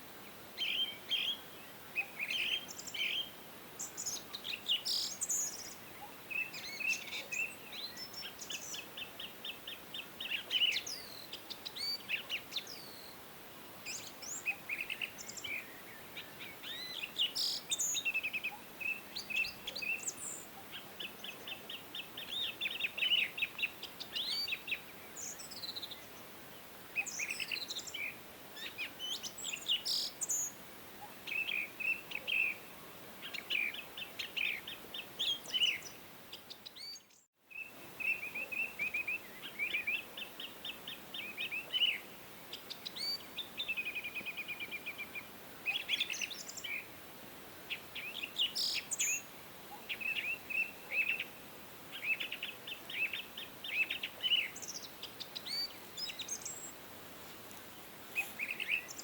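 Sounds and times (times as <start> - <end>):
songbirds singing and chirping: 0.0 - 47.0, 47.6 - 59.0
faint background hiss: 0.0 - 59.0.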